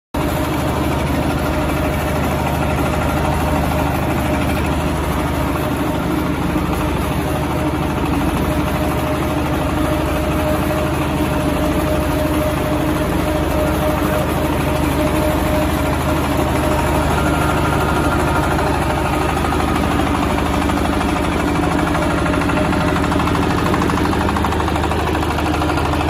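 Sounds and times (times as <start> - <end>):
extruder machine drone: 0.2 - 26.0.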